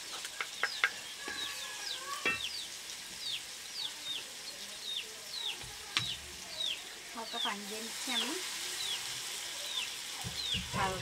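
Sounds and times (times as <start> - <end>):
vegetables sizzling in oil: 0.0 - 11.0
birds chirping: 0.3 - 11.0.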